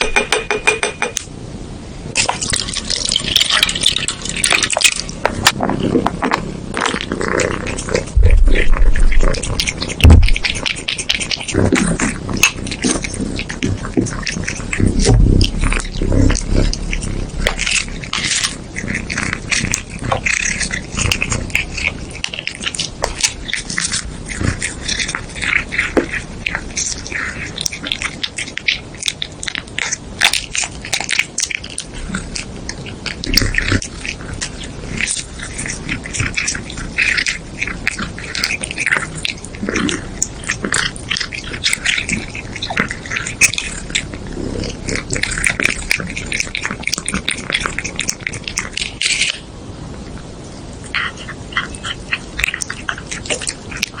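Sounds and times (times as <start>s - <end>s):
high-pitched animal noises: 2.1s - 54.0s
animal clicks and snaps: 2.2s - 49.5s, 50.9s - 54.0s.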